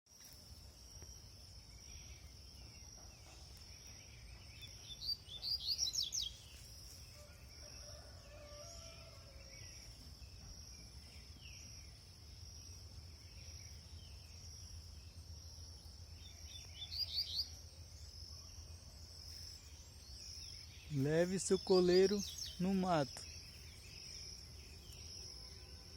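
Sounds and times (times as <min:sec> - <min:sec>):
high insect drone: 0:00.2 - 0:25.9.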